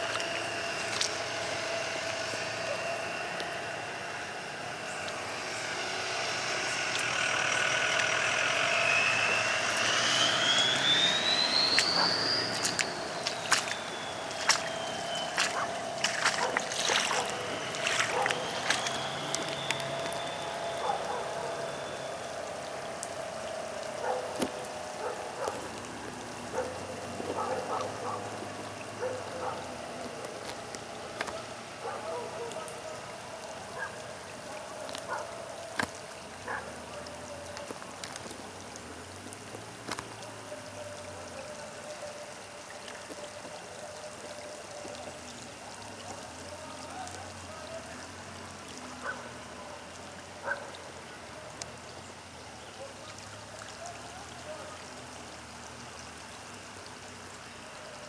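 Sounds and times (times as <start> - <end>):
rain pattering: 0.0 - 58.0
running water: 0.0 - 58.0.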